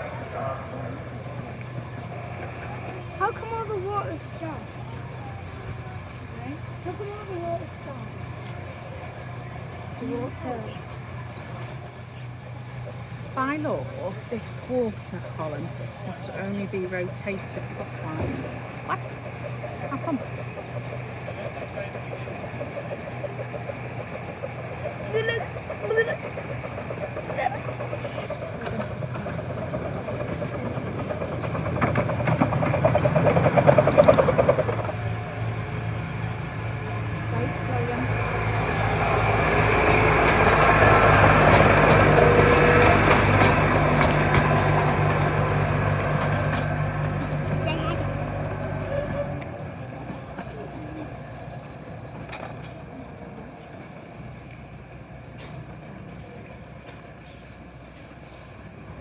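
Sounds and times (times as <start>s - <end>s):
locomotive running: 0.0s - 59.0s
low hum: 0.0s - 59.0s.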